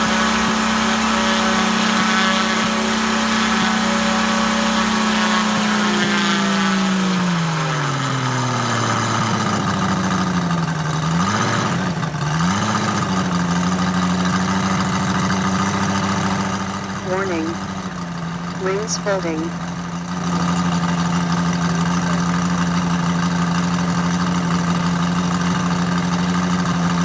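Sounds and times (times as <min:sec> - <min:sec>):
model aircraft engine running: 0:00.0 - 0:27.0.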